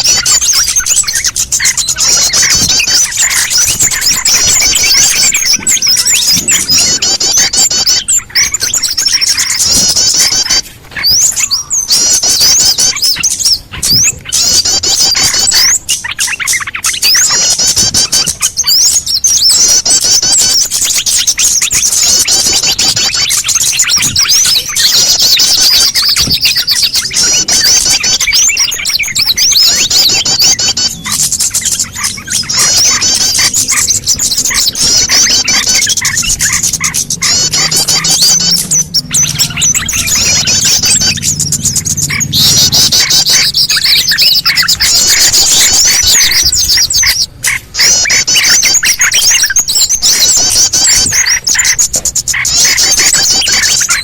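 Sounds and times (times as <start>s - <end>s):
chorus of rapid bird chirps: 0.0s - 54.0s.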